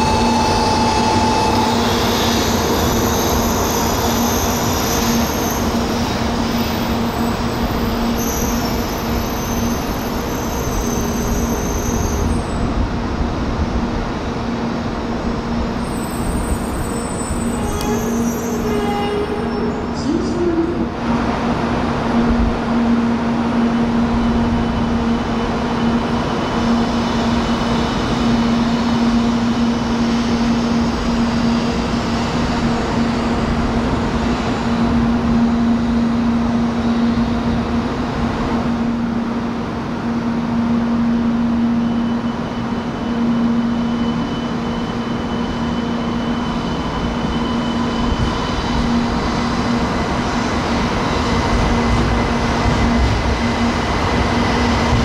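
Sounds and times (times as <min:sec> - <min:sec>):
train rumble with low hum: 0:00.0 - 0:55.0.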